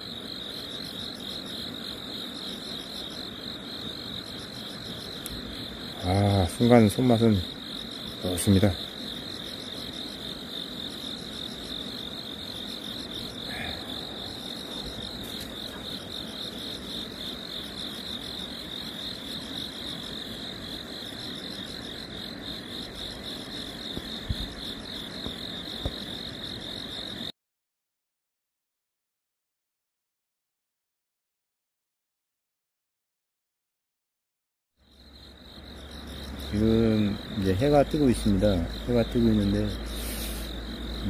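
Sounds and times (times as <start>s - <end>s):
crickets chirping: 0.0s - 27.3s, 34.8s - 41.0s.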